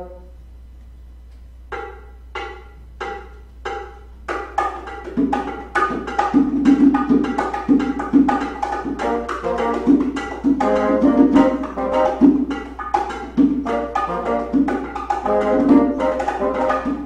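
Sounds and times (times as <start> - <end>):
fast percussion rhythm: 1.7 - 17.0
struck percussion notes: 1.7 - 17.0.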